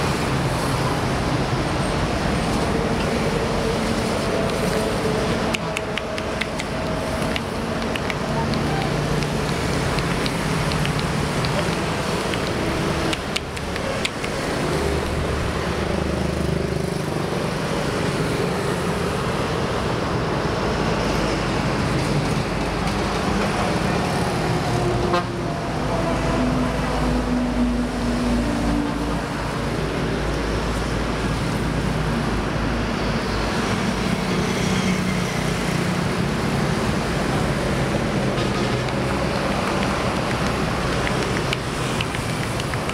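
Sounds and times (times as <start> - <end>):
highway traffic passing: 0.0 - 42.9.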